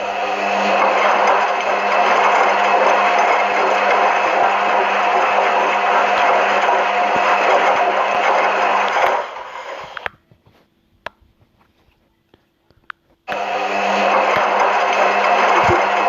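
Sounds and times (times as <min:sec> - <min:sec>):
washing machine humming and whooshing: 0:00.0 - 0:10.6, 0:13.2 - 0:16.0.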